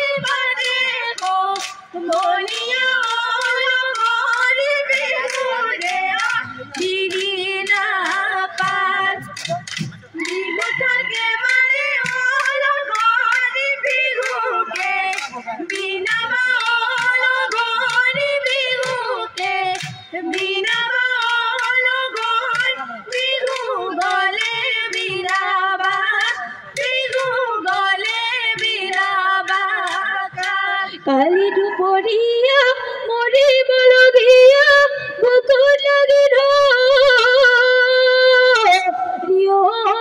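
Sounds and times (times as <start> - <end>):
sharp rhythmic claps: 0.0 - 31.4, 33.3 - 39.0
women singing: 0.0 - 40.0.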